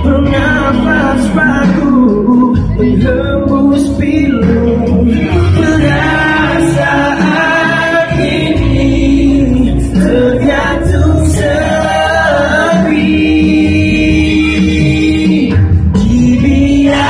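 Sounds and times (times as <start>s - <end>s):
accompanying music: 0.0s - 17.0s
man singing pop ballad: 0.0s - 17.0s.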